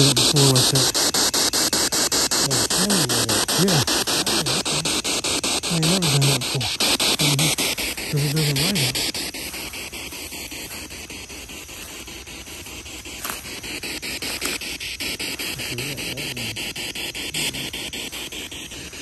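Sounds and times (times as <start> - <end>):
radio static hiss: 0.0 - 19.0
rapid radio clicks: 0.0 - 19.0.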